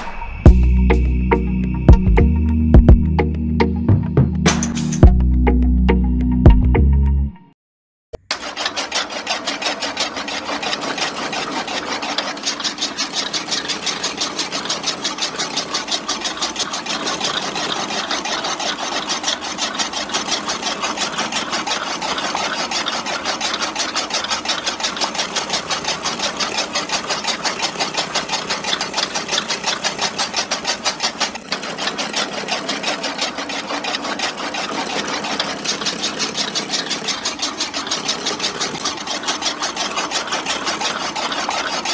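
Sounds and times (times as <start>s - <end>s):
small motor driving chaff cutter: 8.2s - 41.9s.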